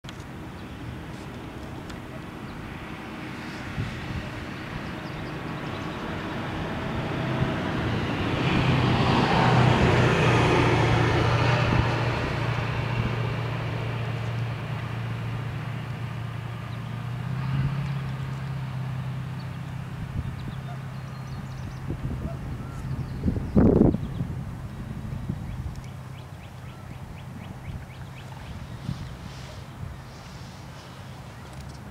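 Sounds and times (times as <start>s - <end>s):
low engine hum: 0.0s - 31.9s
vehicle passing: 0.4s - 31.9s.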